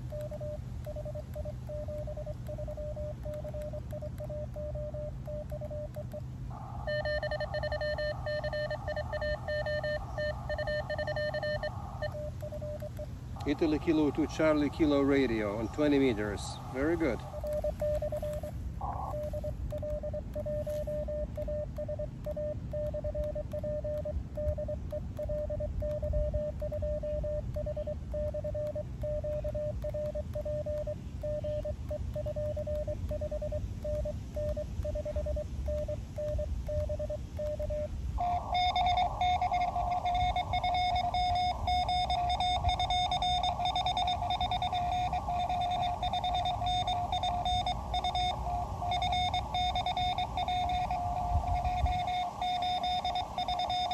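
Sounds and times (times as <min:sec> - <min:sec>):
higher-pitched morse code tone: 0:00.0 - 0:53.9
morse code tone: 0:00.0 - 0:53.9.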